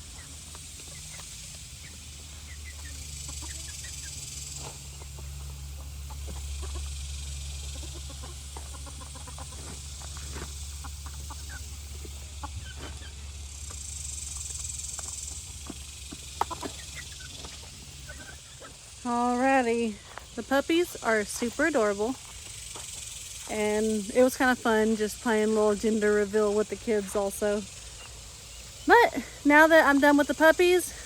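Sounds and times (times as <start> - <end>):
steady low rumble: 0.0 - 30.4
chickens clucking: 0.0 - 31.0.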